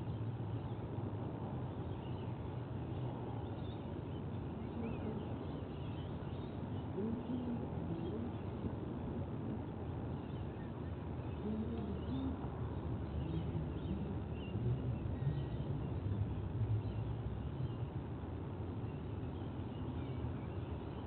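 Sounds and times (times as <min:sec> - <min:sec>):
low outdoor background rumble: 0:00.0 - 0:21.0.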